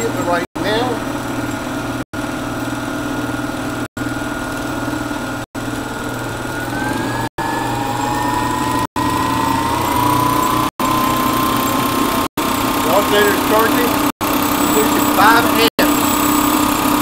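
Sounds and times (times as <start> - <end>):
rising whine: 0.0 - 17.0
electric motor humming: 3.0 - 17.0.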